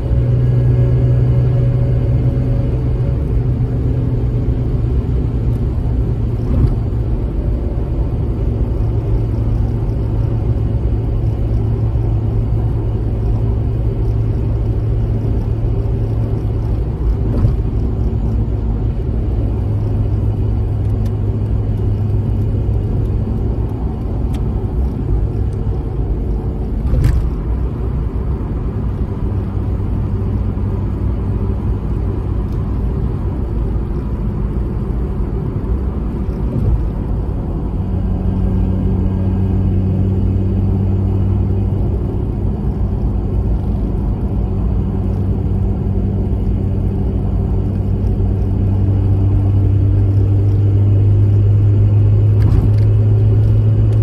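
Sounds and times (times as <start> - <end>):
car engine drone in cabin: 0.0 - 54.0
road noise: 0.0 - 54.0.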